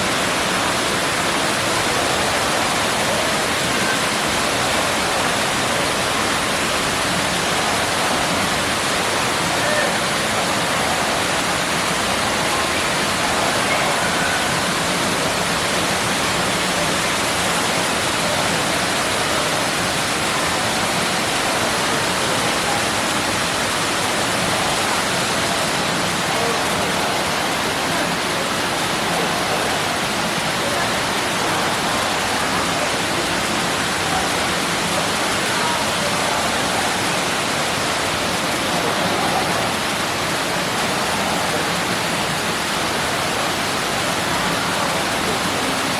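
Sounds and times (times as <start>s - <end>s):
waterfall splashing into pool: 0.0s - 45.9s.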